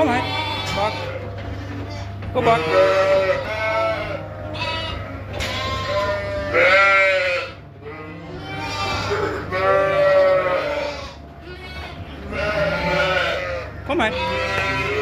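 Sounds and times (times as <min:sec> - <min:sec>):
sheep bleating: 0:00.0 - 0:15.0.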